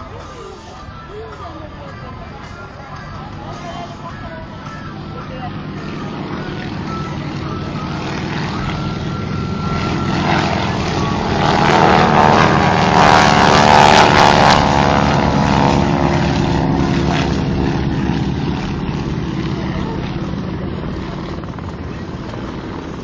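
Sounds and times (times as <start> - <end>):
propeller aircraft engine: 0.0 - 23.0.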